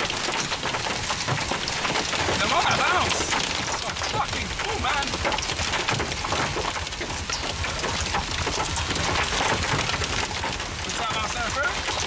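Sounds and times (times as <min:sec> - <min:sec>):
hail pelting vehicle: 0:00.0 - 0:12.0
heavy rain rushing: 0:00.0 - 0:12.0.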